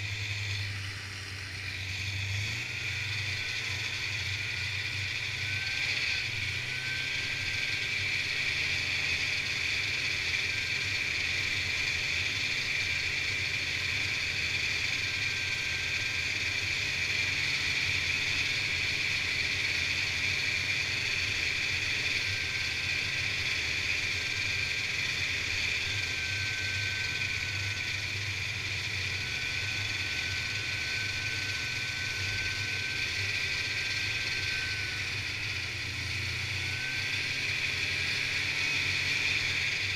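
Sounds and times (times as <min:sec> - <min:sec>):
snowmobile engine drone: 0:00.0 - 0:39.9.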